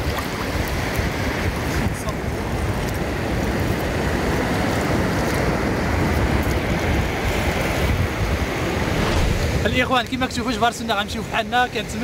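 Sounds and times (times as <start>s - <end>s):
sea waves breaking: 0.0s - 12.0s
wind rumbling on microphone: 0.0s - 12.0s.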